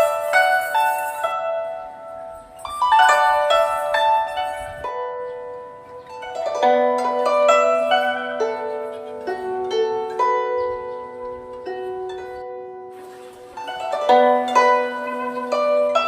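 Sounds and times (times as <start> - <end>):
plucked zither music: 0.0 - 16.0.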